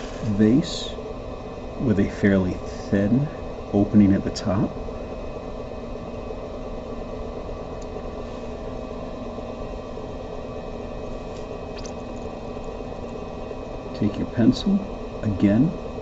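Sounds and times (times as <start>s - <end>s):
pottery wheel motor hum: 0.0s - 16.0s.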